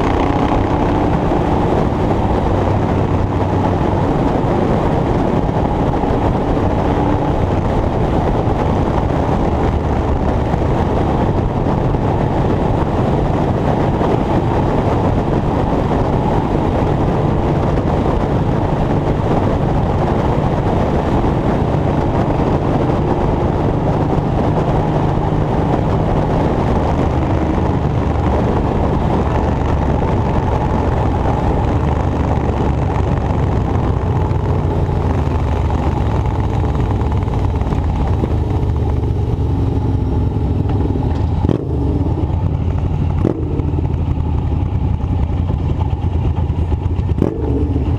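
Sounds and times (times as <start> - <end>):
large engine droning: 0.0 - 47.9.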